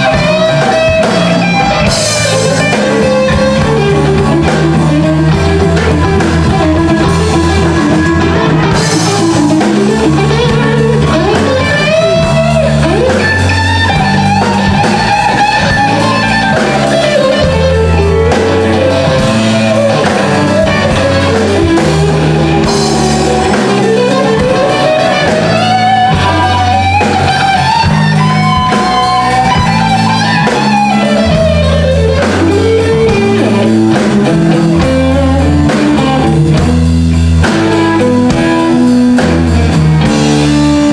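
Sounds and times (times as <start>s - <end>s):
bass guitar line: 0.0s - 40.9s
drums: 0.0s - 40.9s
electric guitar solo: 0.0s - 40.9s.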